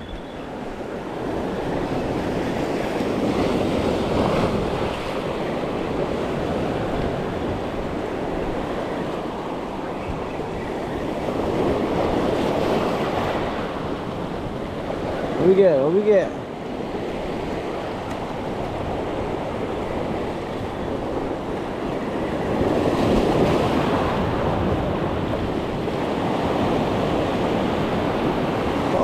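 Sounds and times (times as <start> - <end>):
ocean surf washing ashore: 0.0 - 29.0.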